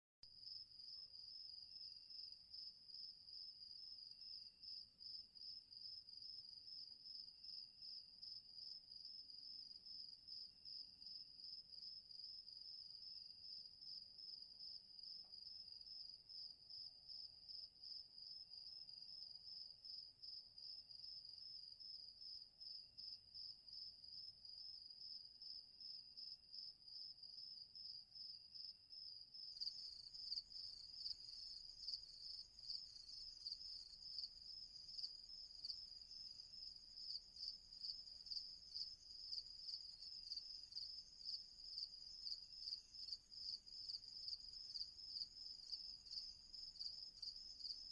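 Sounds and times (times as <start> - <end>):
crickets chirping: 0.4 - 47.9.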